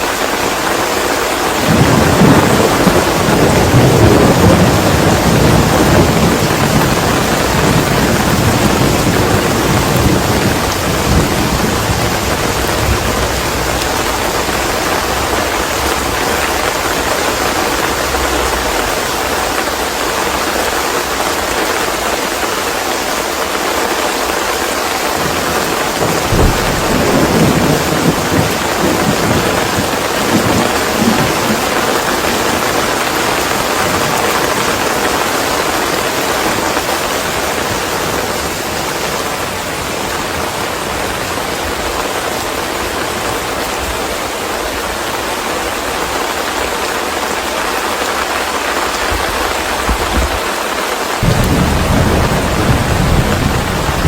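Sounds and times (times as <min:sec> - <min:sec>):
thunder rumbling: 0:00.0 - 0:22.2, 0:25.1 - 0:41.9, 0:48.0 - 0:54.0
steady rain hissing: 0:00.0 - 0:54.0.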